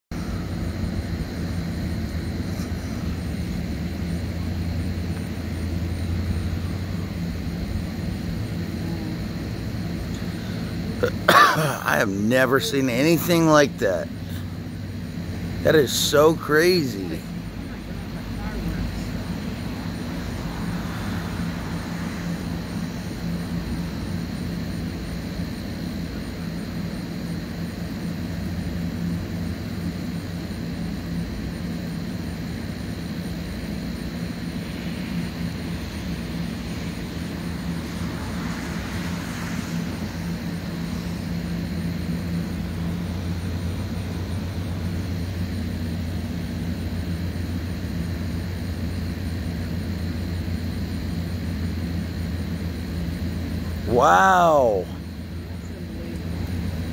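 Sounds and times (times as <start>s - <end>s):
low engine drone: 0.1s - 56.9s.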